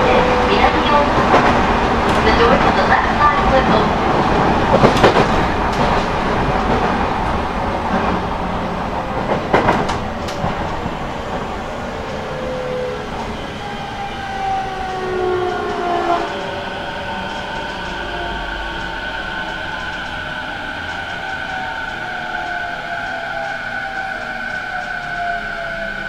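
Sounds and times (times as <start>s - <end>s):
train wheel and rail noise: 0.0s - 26.0s.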